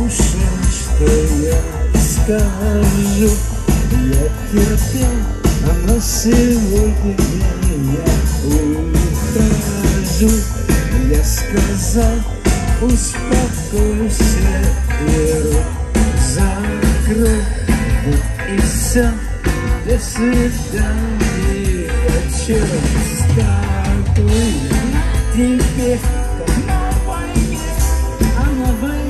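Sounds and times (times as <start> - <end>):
bass: 0.0 - 29.0
drums: 0.0 - 29.0.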